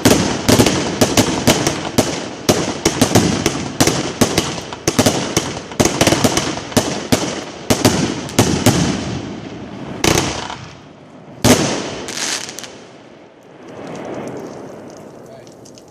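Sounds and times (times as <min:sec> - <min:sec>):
fireworks cracks and bangs: 0:00.0 - 0:15.9.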